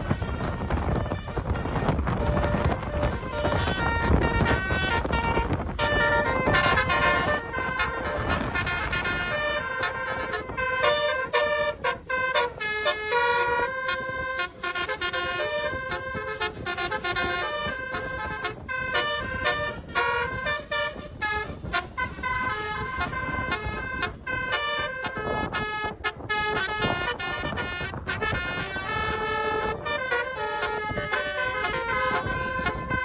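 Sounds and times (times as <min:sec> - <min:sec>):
air horns playing melodic tunes: 0:00.0 - 0:33.0.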